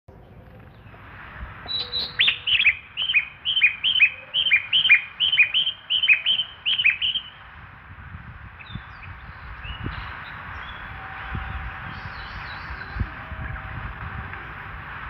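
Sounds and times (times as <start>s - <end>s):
recorded birdsong chirps over loudspeaker: 1.7s - 7.6s, 8.4s - 15.0s.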